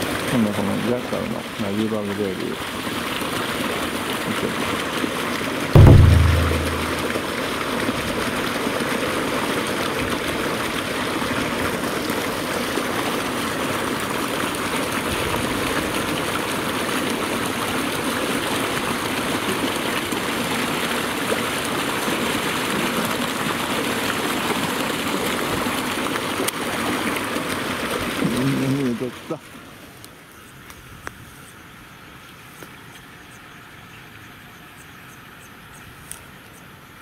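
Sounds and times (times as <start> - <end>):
water rushing in a channel: 0.0 - 30.3.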